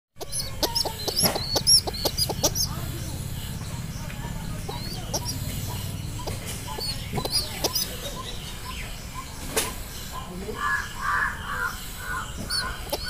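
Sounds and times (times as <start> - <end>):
high bird chirps: 0.2 - 13.0.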